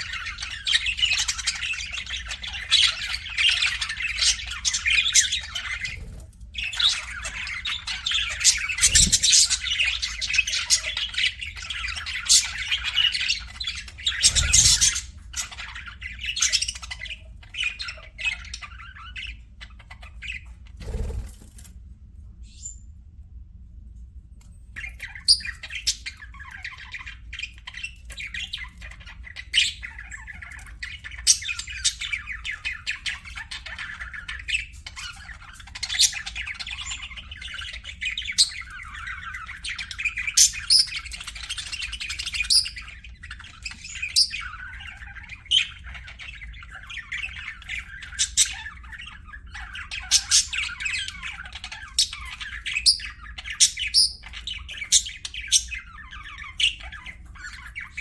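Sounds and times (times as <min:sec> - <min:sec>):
budgerigars chattering: 0:00.0 - 0:21.2, 0:24.8 - 0:58.0
sharp bird chirps and squawks: 0:00.0 - 0:21.4, 0:24.8 - 0:58.0.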